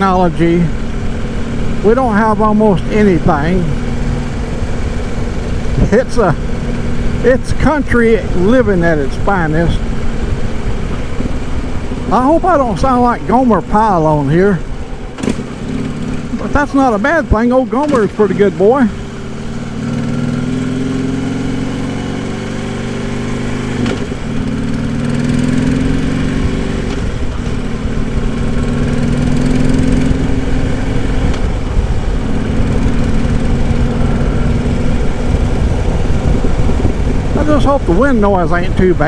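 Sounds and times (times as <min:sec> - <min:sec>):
motorcycle engine running: 0:00.0 - 0:39.0
wind rumble: 0:00.0 - 0:39.0.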